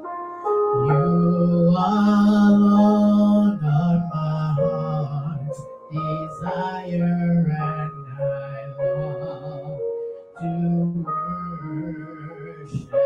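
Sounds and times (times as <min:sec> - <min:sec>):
soft instrumental accompaniment: 0:00.0 - 0:13.0
person singing slow worship song: 0:00.4 - 0:13.0.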